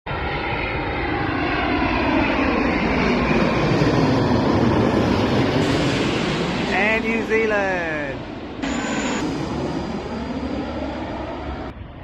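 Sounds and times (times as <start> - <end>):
airliner engines roaring: 0.1 - 12.0
whining engine tones: 0.2 - 12.0.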